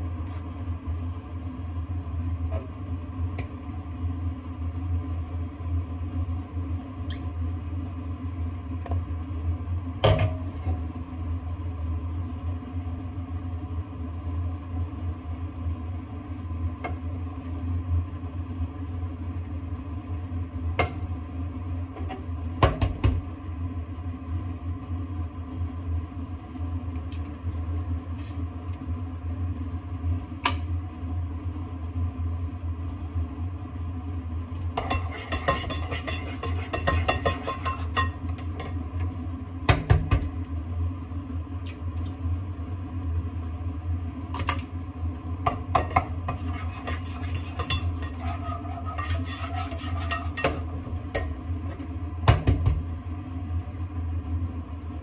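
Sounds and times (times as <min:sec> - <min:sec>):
electric hob humming: 0:00.0 - 0:55.0.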